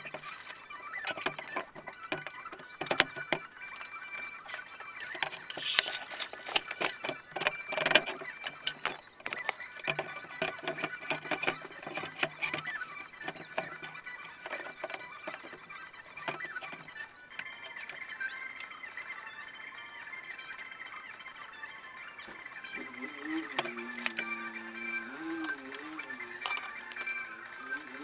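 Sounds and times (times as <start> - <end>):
wooden and metal parts clattering: 0.0 - 18.1, 22.2 - 28.0.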